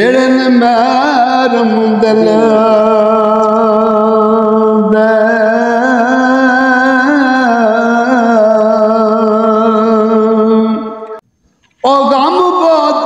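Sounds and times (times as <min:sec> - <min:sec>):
man singing a long note: 0:00.0 - 0:11.2.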